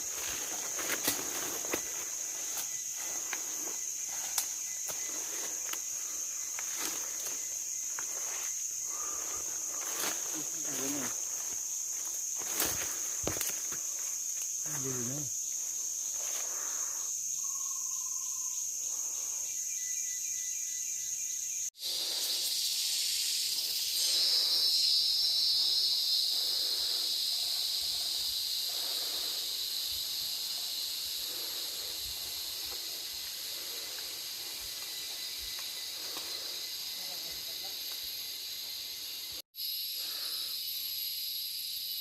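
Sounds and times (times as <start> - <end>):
cicadas and crickets whining: 0.0 - 42.0
low insect drone: 0.0 - 42.0.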